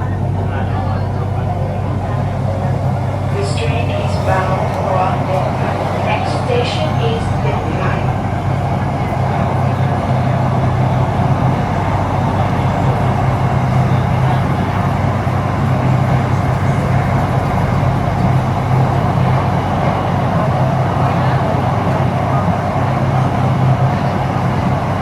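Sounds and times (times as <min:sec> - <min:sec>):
train car low hum: 0:00.0 - 0:25.0
wheels rumbling on rails: 0:00.0 - 0:25.0.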